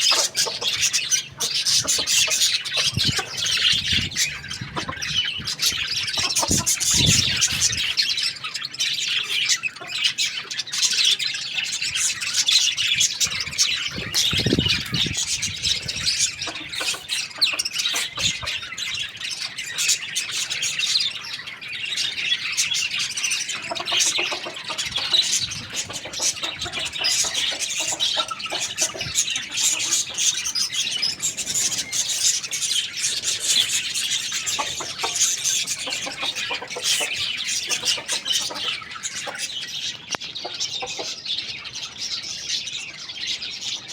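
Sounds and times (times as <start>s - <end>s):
flock of small birds chirping: 0.0s - 43.9s.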